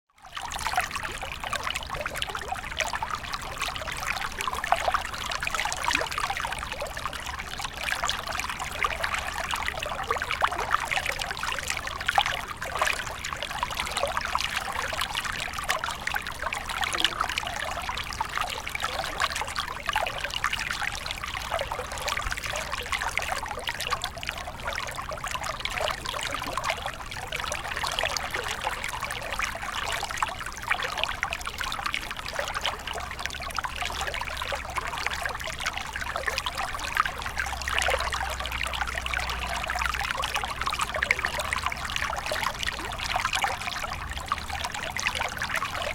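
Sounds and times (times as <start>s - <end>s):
stream babbling: 0.4s - 45.9s.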